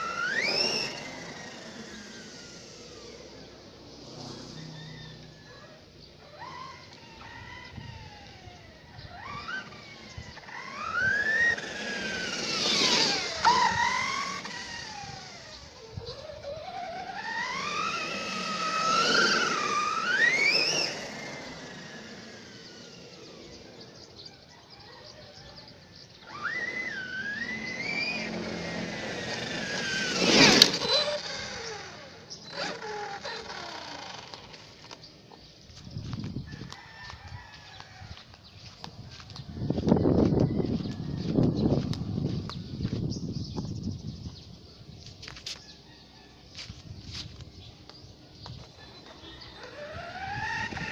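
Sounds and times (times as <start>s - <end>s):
electric motor whining: 0.0s - 44.5s, 46.5s - 50.9s.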